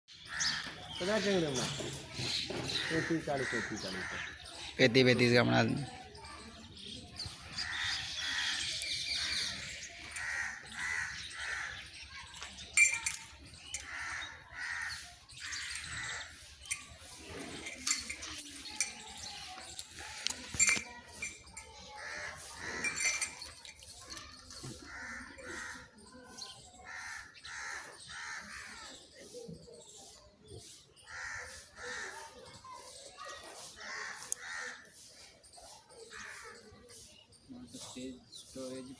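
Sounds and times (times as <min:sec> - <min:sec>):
birds calling: 0:00.1 - 0:38.9.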